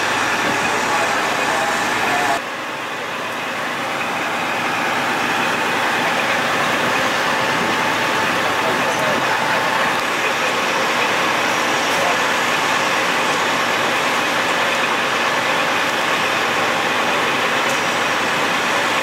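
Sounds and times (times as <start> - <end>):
faint voices: 0.0 - 19.0
vehicle engine running: 0.0 - 19.0.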